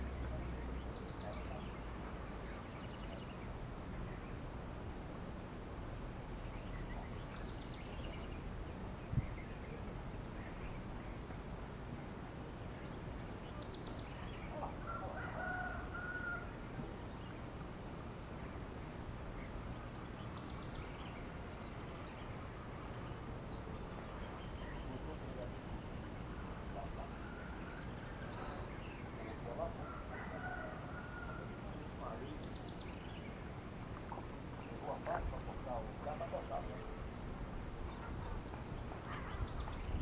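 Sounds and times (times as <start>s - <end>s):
distant birds calling: 0.0s - 40.0s
low outdoor background noise: 0.0s - 40.0s.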